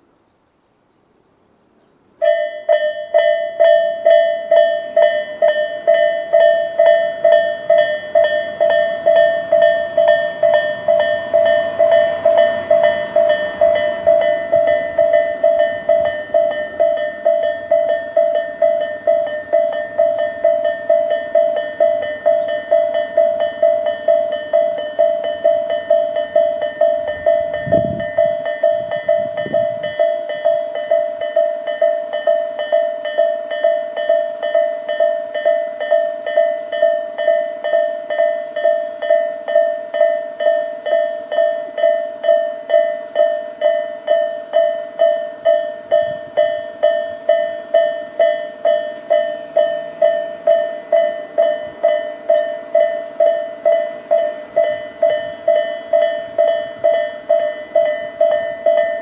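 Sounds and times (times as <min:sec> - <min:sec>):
level crossing warning bell: 0:02.2 - 0:59.0.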